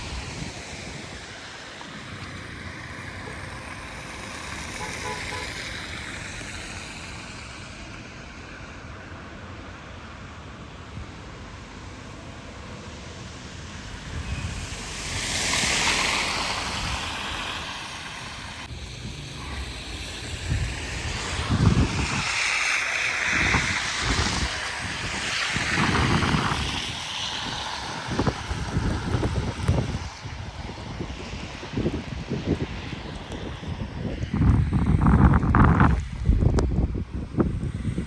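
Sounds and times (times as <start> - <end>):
blizzard wind gusting: 0.0 - 8.2, 11.0 - 38.0.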